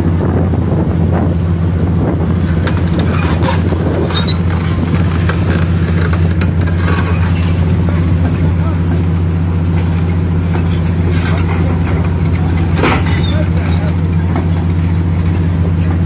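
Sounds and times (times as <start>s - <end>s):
bulldozer diesel engine drone: 0.0s - 16.0s
debris cracking and clattering: 2.4s - 16.0s.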